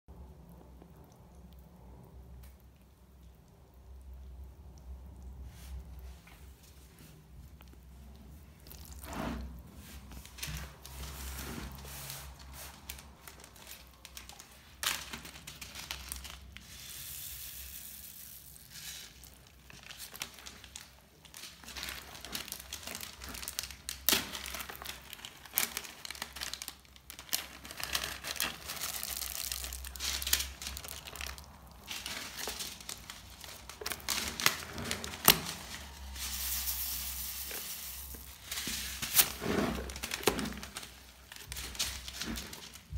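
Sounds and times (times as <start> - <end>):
crunchy slime crackling: 7.2 - 42.9.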